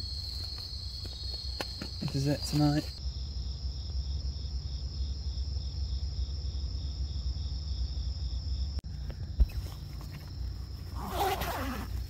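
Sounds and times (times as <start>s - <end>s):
high continuous insect trill: 0.0s - 12.0s
lower pulsing insect trill: 0.0s - 12.0s.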